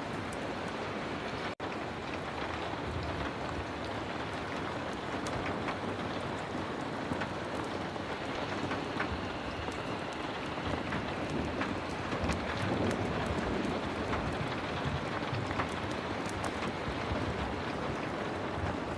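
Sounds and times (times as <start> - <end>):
heavy rain hissing: 0.0 - 18.9.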